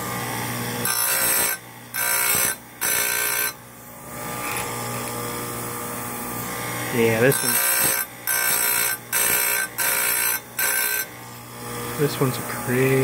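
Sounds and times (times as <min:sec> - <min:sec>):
grinder motor whining: 0:00.0 - 0:13.0.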